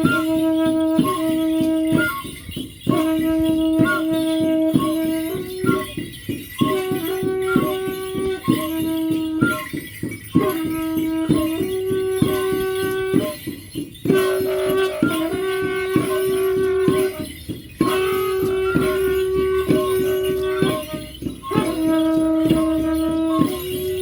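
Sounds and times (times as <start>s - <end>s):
long held melodic notes: 0.0s - 24.0s
steady fast drumbeat: 0.0s - 24.0s.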